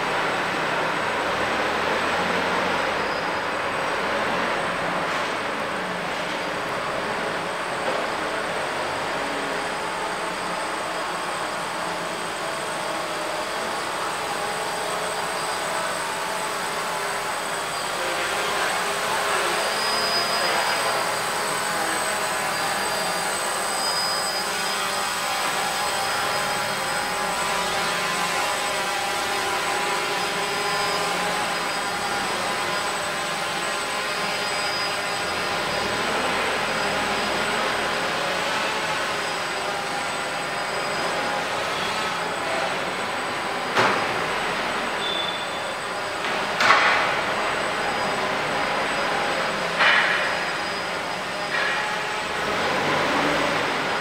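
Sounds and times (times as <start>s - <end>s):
drone motors whining: 4.6s - 54.0s.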